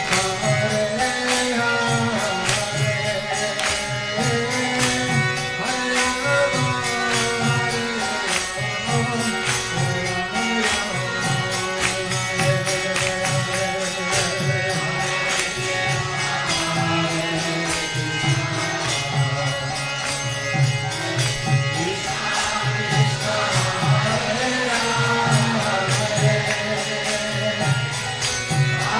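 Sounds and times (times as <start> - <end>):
chanted devotional song: 0.0 - 28.9
held drone notes: 0.0 - 28.9
steady percussion: 0.0 - 28.9.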